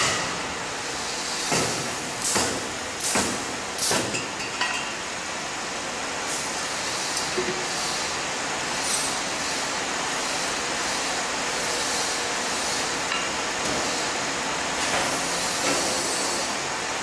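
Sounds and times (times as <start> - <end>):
welding machine hiss and rumble: 0.0 - 17.0.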